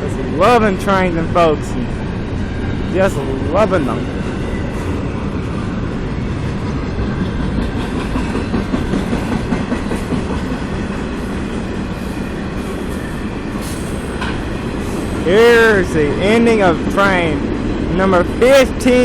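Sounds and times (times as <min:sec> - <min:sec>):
train cars rumbling past: 0:00.0 - 0:19.0
wheel clatter over rail joints: 0:00.0 - 0:19.0.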